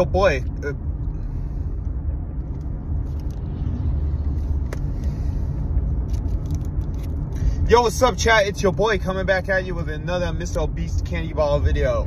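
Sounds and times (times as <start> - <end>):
car rumble inside cabin: 0.0 - 12.0.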